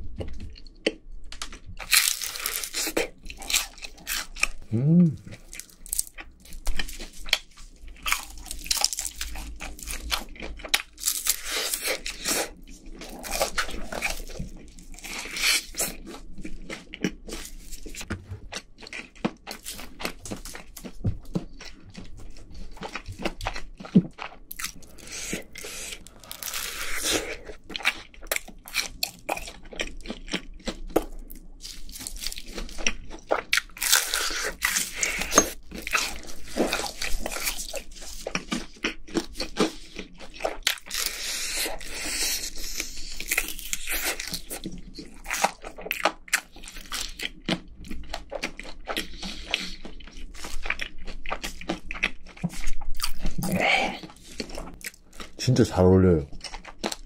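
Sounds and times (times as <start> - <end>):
wet chewing: 0.1 - 57.0
crisp crunches of fried chicken: 0.4 - 57.0.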